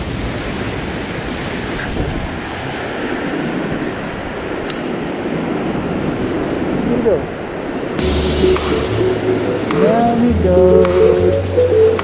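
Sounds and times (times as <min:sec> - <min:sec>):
ocean surf on sand: 0:00.0 - 0:12.0.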